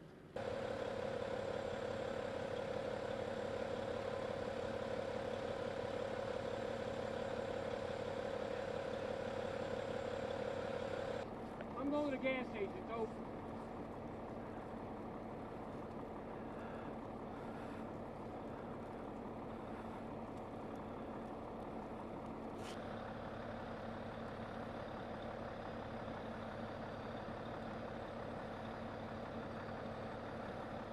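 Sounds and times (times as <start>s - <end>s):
vehicle engine humming: 0.0s - 30.9s.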